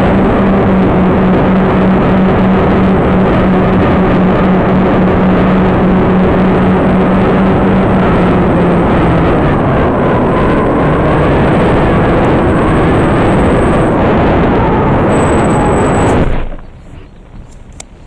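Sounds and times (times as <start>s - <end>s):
faint pitched tones: 0.0s - 17.4s
wind buffeting microphone: 0.0s - 18.0s.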